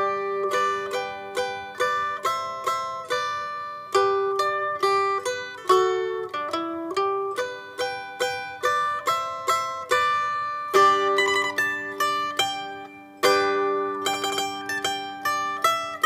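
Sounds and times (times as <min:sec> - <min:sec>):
plucked lute notes: 0:00.0 - 0:16.0
strummed lute chords: 0:00.0 - 0:16.0.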